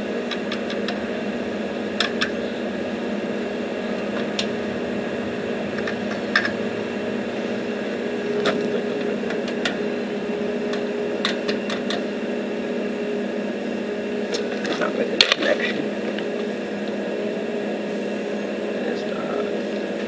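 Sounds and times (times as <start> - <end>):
welder humming: 0.0 - 20.0.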